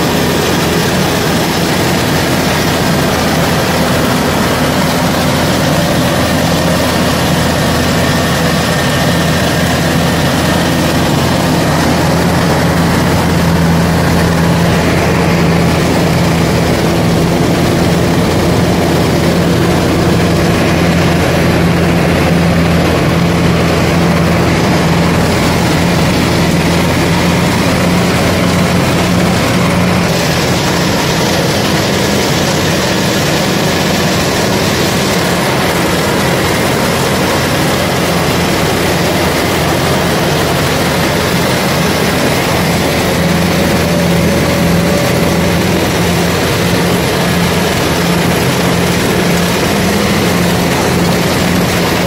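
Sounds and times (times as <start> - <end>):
combine harvester engine drone: 0.0 - 52.0.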